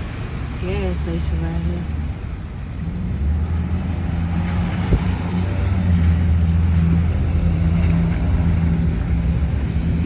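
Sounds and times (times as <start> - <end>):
road hum: 0.0 - 10.0.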